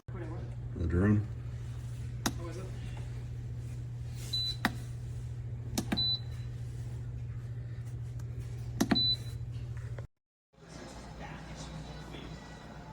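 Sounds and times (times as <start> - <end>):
low electrical hum: 0.1 - 12.9.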